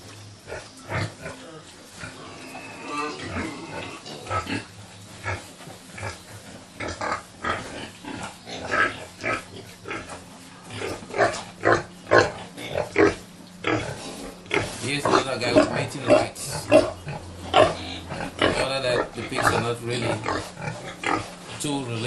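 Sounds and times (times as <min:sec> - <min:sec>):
pigs grunting: 0:00.0 - 0:22.0.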